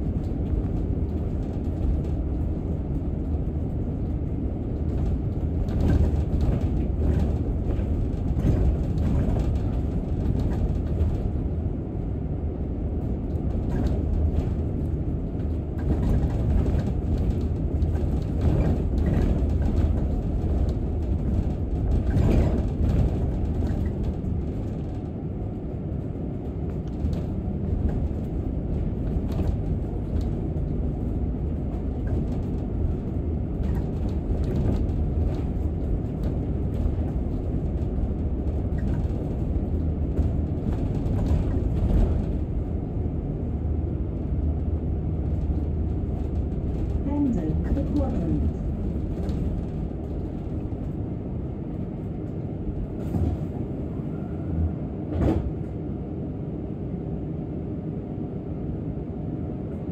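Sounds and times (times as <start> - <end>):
bodywork rattles and knocks: 0.0 - 12.0, 12.6 - 53.6
bus engine and road rumble: 0.0 - 59.9.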